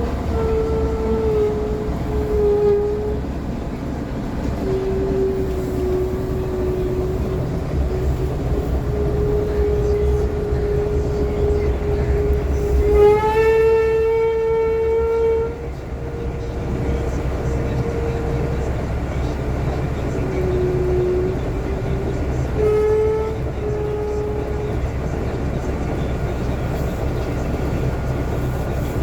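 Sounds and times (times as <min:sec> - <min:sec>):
bus engine rumble: 0:00.0 - 0:29.0
long wavering squeal: 0:00.0 - 0:29.0.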